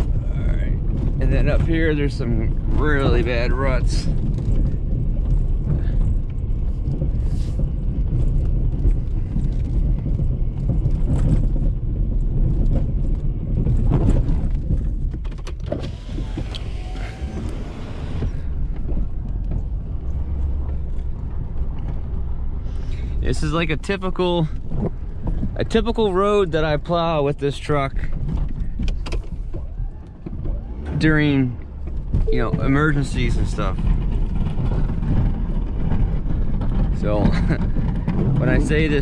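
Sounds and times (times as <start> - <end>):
knocks from ruts: 0.0 - 27.2, 27.8 - 39.0
diesel truck engine under load: 0.0 - 39.0.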